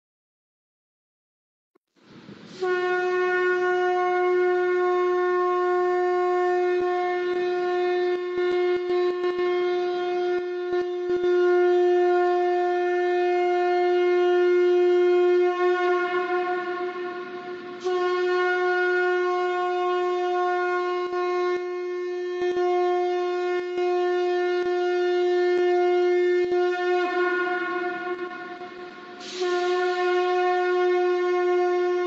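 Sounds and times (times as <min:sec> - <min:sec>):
conch shell trumpet blasts: 0:02.5 - 0:32.0.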